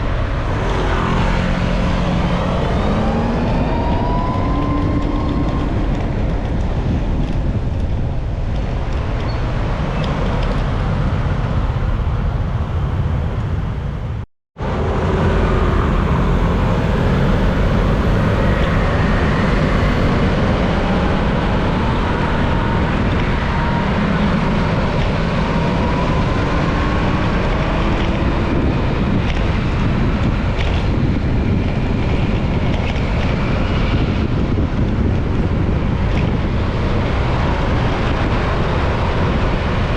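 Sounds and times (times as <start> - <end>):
road and traffic noise: 0.0 - 39.9
wind rumbling on microphone: 0.0 - 39.9.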